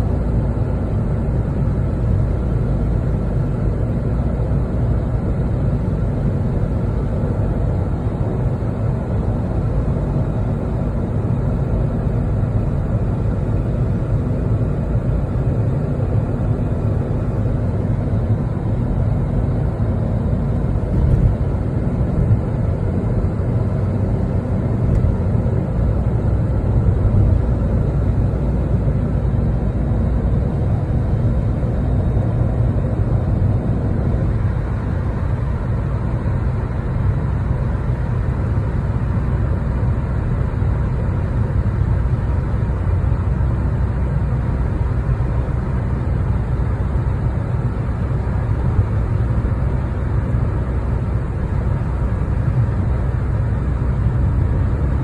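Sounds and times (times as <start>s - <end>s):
car cabin road noise: 0.0s - 55.0s.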